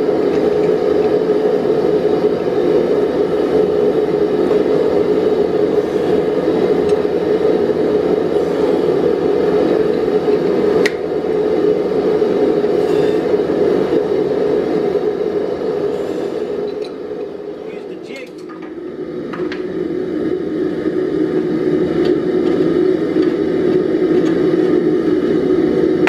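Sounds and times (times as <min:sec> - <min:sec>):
machine motor whirring hum: 0:00.0 - 0:26.0.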